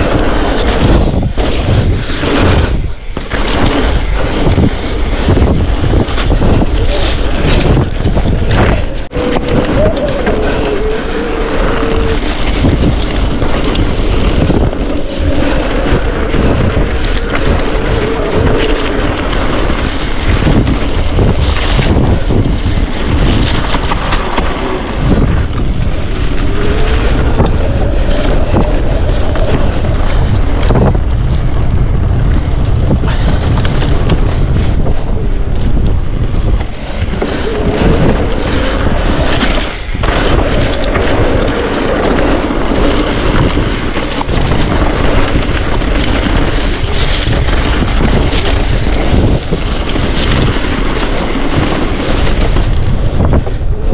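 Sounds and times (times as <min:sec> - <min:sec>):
mountain bike on wet trail: 0:00.0 - 0:53.9
wind on microphone: 0:00.0 - 0:53.9.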